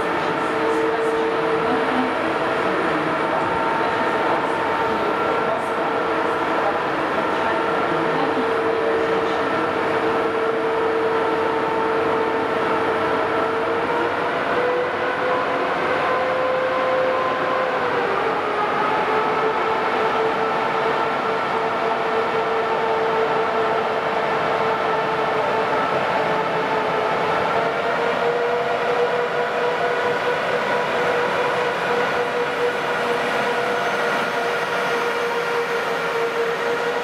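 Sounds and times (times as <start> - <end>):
electric locomotive whine: 0.0 - 37.0
train running noise: 0.0 - 37.0.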